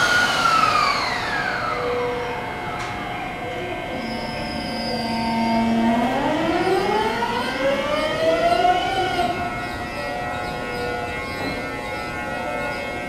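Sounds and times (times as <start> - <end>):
electric train inverter whine: 0.0 - 13.0.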